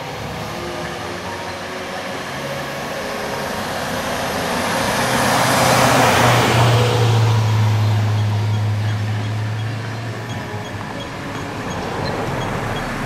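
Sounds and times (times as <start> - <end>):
low engine hum: 0.0 - 13.0
vehicle passing by: 0.0 - 13.0.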